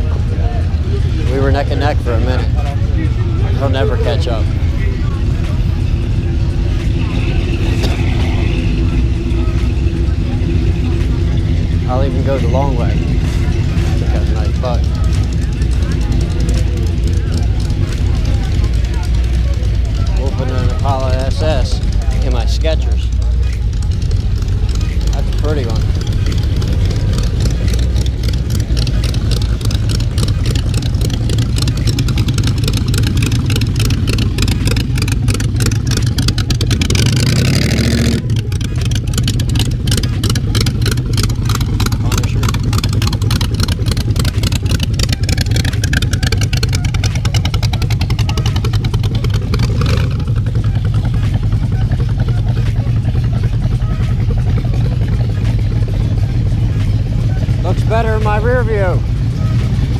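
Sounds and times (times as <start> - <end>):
car engines in slow traffic: 0.0 - 59.9.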